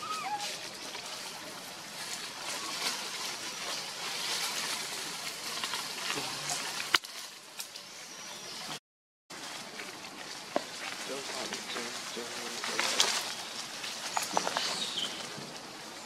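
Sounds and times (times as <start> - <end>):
leaves and branches rustling: 0.0 - 16.0
steady outdoor hiss: 0.0 - 16.0.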